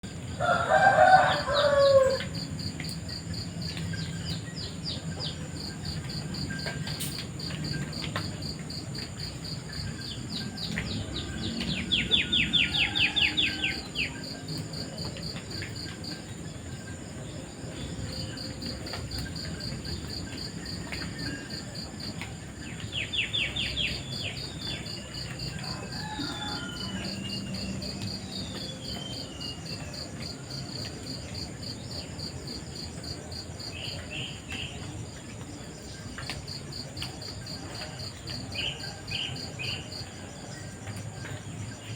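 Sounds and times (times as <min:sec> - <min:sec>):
crickets chirping: 0:00.1 - 0:41.9.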